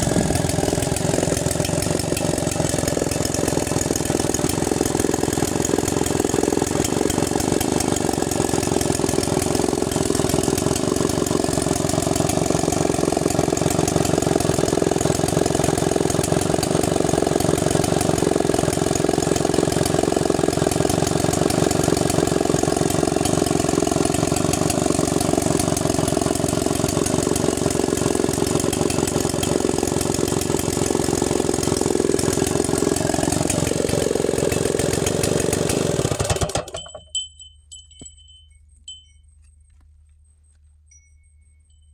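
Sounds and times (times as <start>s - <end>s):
chainsaw idling: 0.0s - 37.2s.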